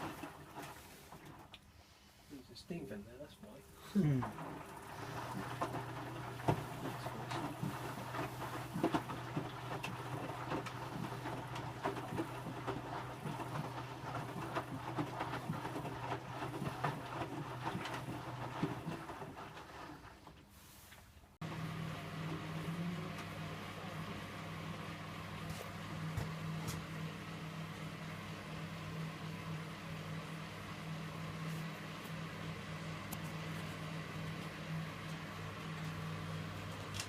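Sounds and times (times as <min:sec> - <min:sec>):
washing machine humming: 0:00.0 - 0:37.0.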